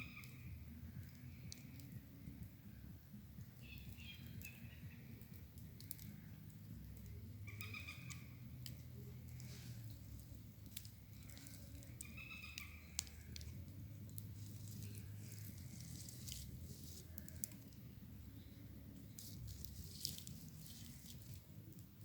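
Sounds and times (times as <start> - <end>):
wood fire crackling and popping: 0.0 - 2.5, 3.2 - 22.0.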